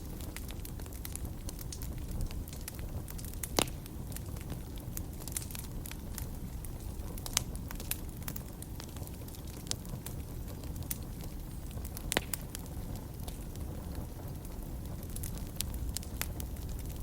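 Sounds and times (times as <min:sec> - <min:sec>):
flames rumbling: 0:00.0 - 0:17.0
loud fire pops: 0:00.0 - 0:17.0
wood fire snaps: 0:00.0 - 0:17.0.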